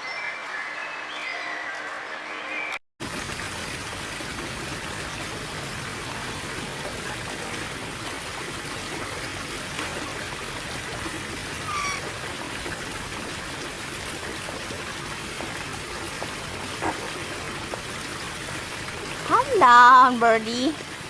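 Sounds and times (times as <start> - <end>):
running water rushing: 3.0 - 21.0.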